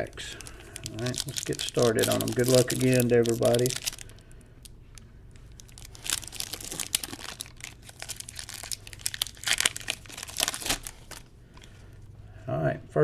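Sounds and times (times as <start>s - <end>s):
wrapper crinkling and tearing: 0.0s - 11.8s
low steady hum: 0.0s - 13.0s.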